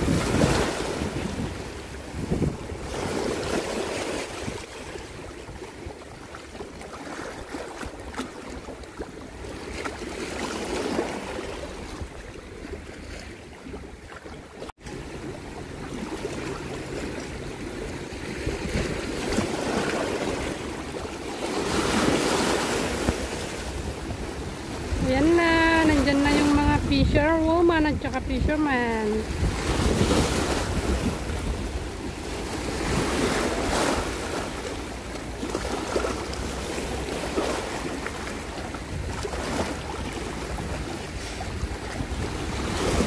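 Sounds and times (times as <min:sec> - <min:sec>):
wind on microphone: 0:00.0 - 0:08.3, 0:16.5 - 0:43.0
seawater lapping: 0:00.0 - 0:43.0.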